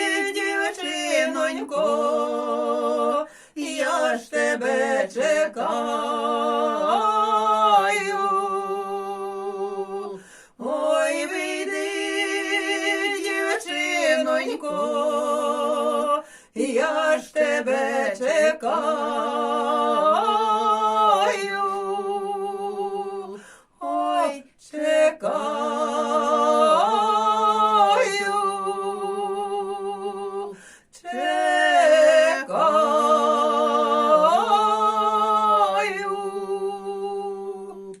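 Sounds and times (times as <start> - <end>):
women singing unaccompanied: 0.0 - 38.0.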